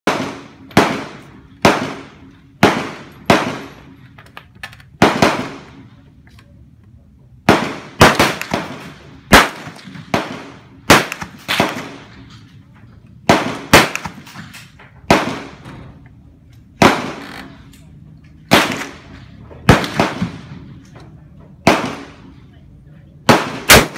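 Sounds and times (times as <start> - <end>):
rifle shots with echo: 0.1 - 4.2, 4.8 - 6.1, 7.4 - 12.6, 13.2 - 16.0, 16.6 - 17.7, 18.3 - 22.6, 23.2 - 23.9.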